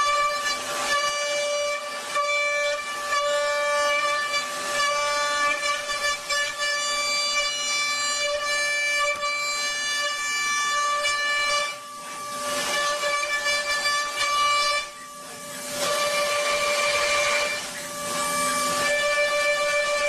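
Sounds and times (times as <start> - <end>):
hiss: 0.0 - 20.0
machine tool whine: 0.0 - 20.0.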